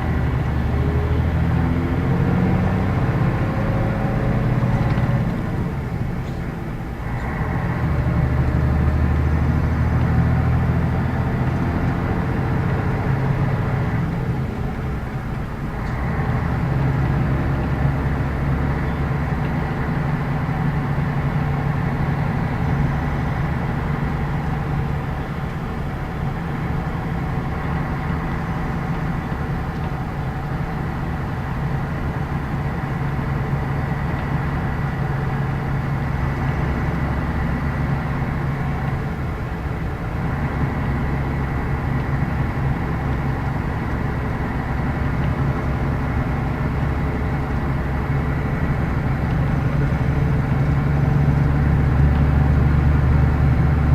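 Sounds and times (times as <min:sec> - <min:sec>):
bus diesel engine pulling: 0:00.0 - 0:53.9.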